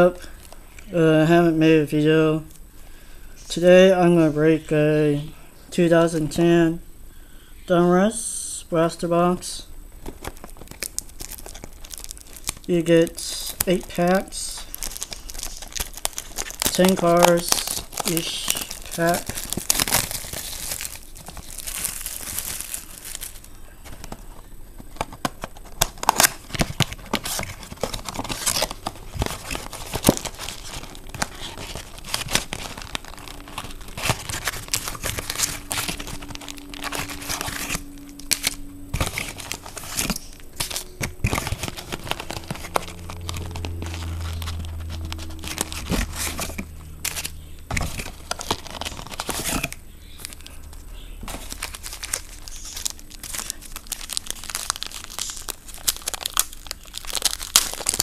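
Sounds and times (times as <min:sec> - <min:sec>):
plastic wrappers crinkling and tearing: 0:00.0 - 0:00.9, 0:10.0 - 0:58.0.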